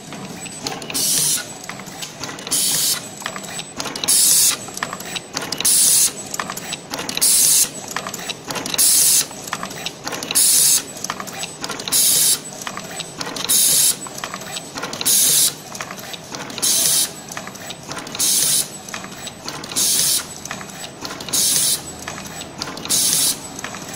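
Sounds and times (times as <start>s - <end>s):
machine clicking and clatter: 0.0s - 23.9s.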